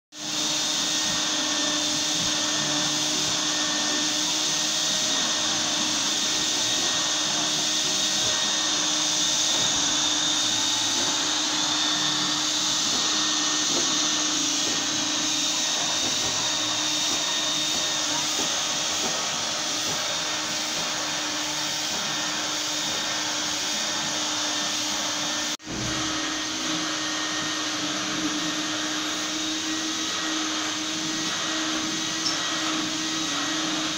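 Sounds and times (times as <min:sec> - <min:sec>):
vacuum cleaner whining: 0:00.1 - 0:33.9.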